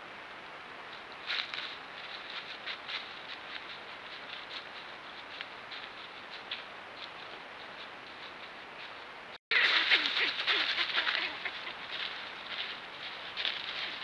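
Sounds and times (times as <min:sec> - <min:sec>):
hooves crunching dry leaves: 0:01.2 - 0:14.0.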